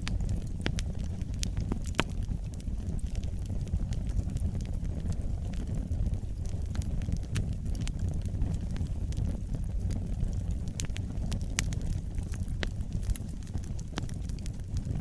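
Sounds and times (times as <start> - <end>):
wood crackling and popping: 0.0 - 15.0
wood fire burning: 0.0 - 15.0.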